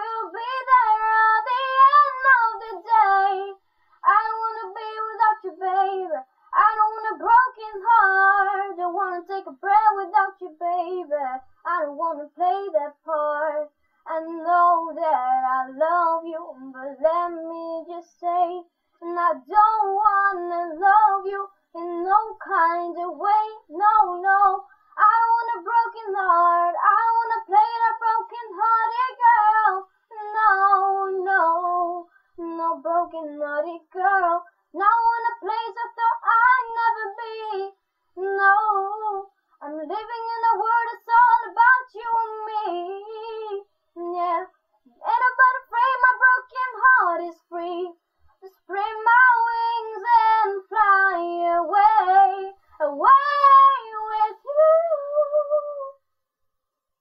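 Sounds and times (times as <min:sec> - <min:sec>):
girl singing unaccompanied: 0:00.0 - 0:56.0.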